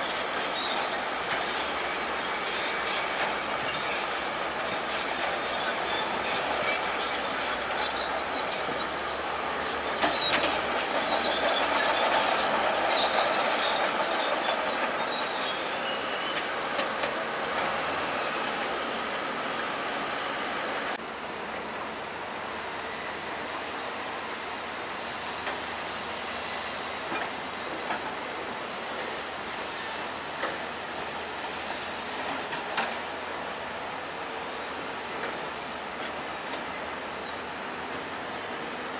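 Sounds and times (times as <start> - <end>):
bulldozer running: 0.0 - 38.9
steel tracks squealing: 0.0 - 38.9.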